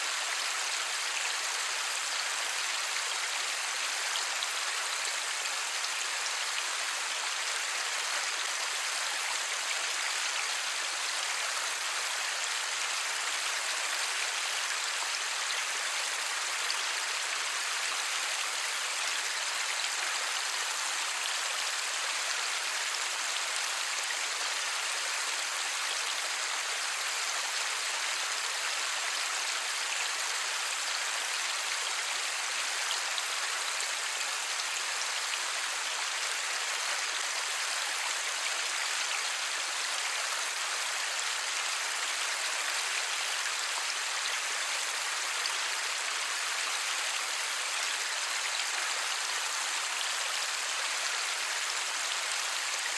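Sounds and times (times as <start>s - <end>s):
light rain falling: 0.0s - 52.9s.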